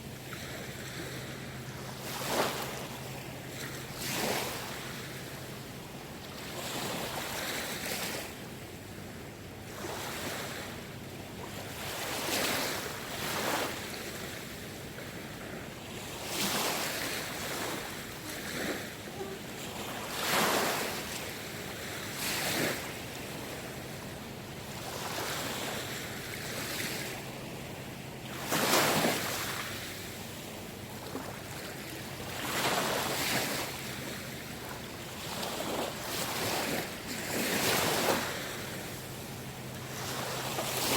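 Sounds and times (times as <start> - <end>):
small waves washing in: 0.0 - 8.5, 9.6 - 40.9.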